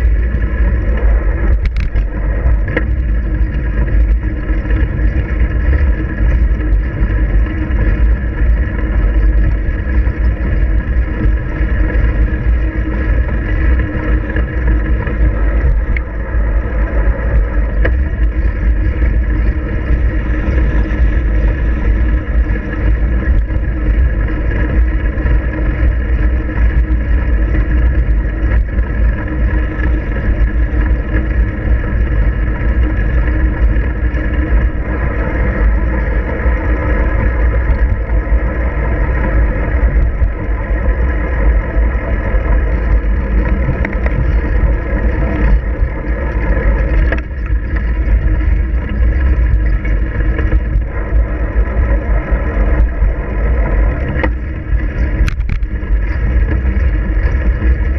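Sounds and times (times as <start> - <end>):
bicycle road rumble: 0.0 - 57.9
wind buffeting microphone: 0.0 - 57.9.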